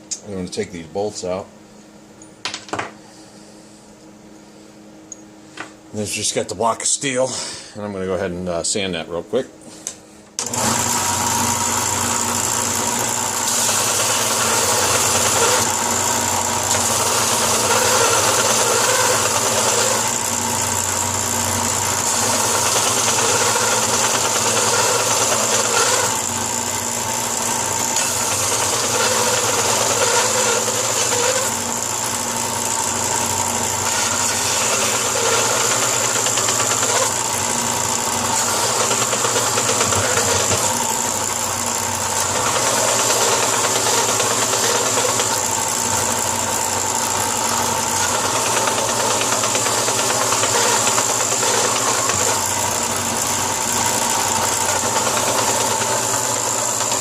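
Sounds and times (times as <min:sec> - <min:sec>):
power sander grinding metal: 0:10.4 - 0:57.0.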